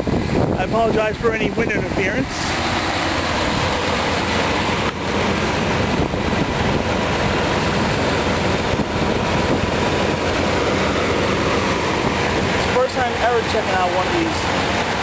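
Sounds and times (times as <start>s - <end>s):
car engine idling: 0.0s - 15.0s
wind buffeting microphone: 0.0s - 15.0s.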